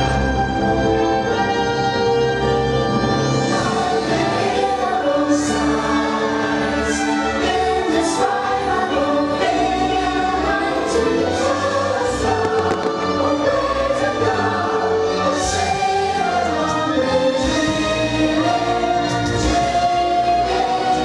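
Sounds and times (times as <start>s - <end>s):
choir with orchestral backing: 0.0s - 21.0s.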